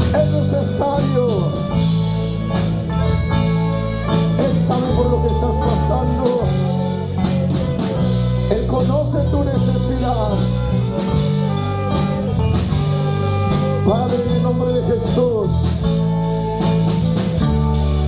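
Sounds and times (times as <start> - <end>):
drum kit beat with cymbals: 0.0 - 18.0
sustained bass notes: 0.0 - 18.0
worship band music: 0.0 - 18.0.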